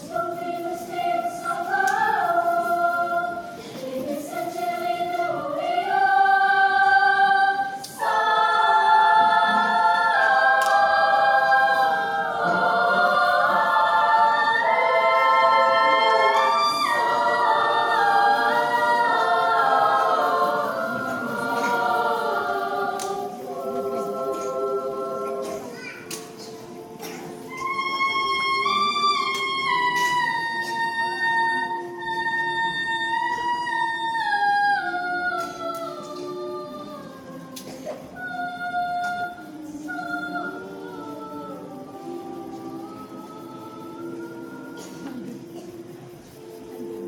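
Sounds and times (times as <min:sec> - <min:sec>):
children's choir singing: 0:00.0 - 0:47.0.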